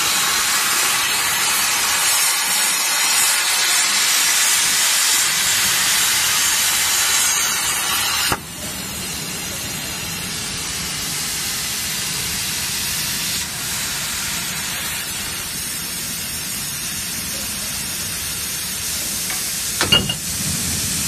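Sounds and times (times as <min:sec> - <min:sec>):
plasma torch hissing: 0:00.0 - 0:21.0.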